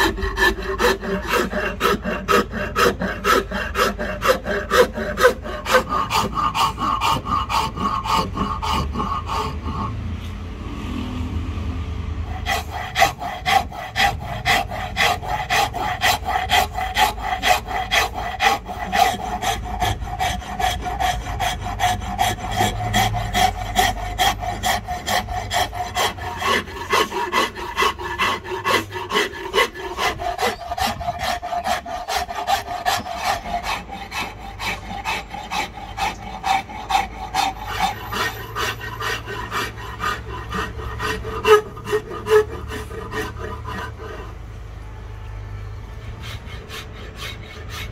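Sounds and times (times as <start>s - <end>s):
rasp scraping wood: 0.0s - 10.6s, 12.2s - 44.7s, 46.0s - 47.9s.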